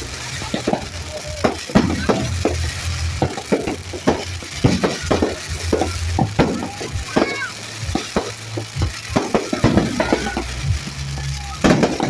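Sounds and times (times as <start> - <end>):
fireworks popping and crackling: 0.0 - 12.0
low rumble: 0.0 - 12.0.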